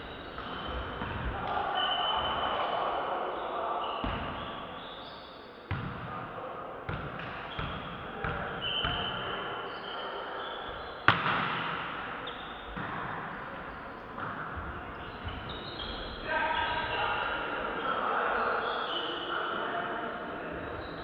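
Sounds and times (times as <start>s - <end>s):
volleyball hits echoing in hall: 0.0s - 19.6s.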